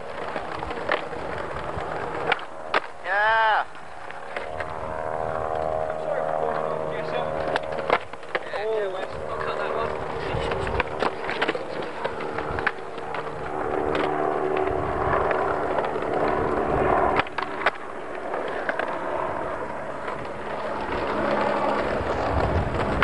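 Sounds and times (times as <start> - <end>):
skateboard clacks: 0.0 - 3.2, 7.3 - 23.0
skateboard wheels rolling on concrete: 0.0 - 23.0.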